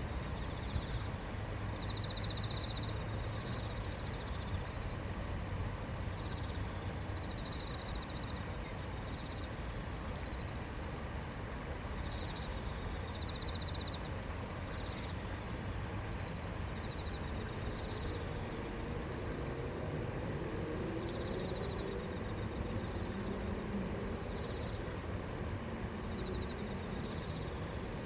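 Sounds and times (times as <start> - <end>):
river water babbling: 0.0 - 28.0.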